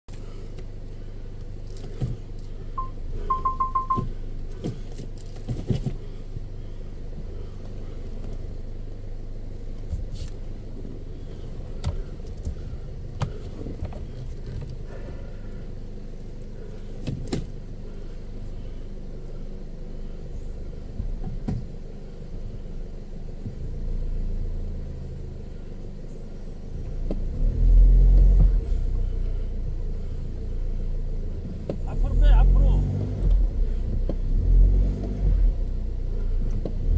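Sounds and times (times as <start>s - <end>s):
car engine rumbling: 0.0s - 36.9s.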